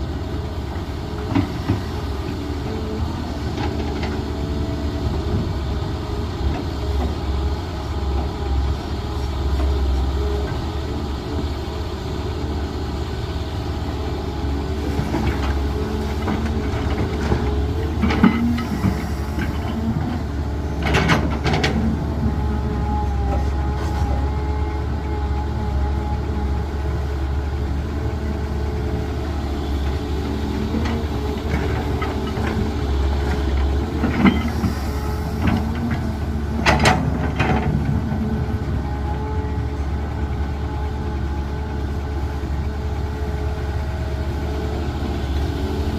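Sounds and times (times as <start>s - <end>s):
diesel machinery engine running: 0.0s - 45.9s.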